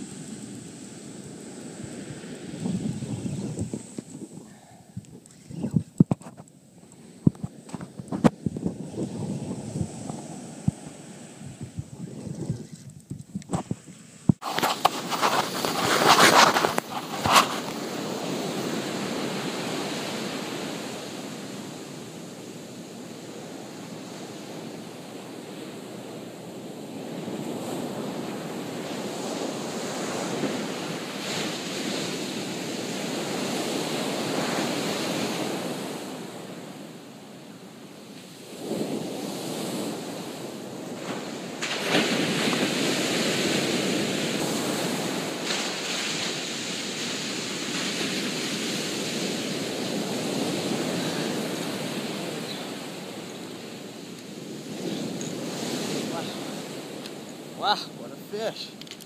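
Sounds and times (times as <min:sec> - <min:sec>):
wave crashing: 0:00.0 - 0:05.2, 0:07.1 - 0:12.7, 0:13.4 - 0:37.2, 0:38.0 - 0:59.0
ocean surf on sandy beach: 0:00.0 - 0:59.0.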